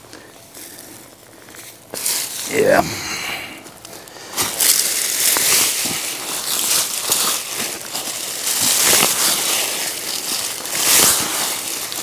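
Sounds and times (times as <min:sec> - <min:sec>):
dry vines rustling and crackling: 0:00.0 - 0:12.0.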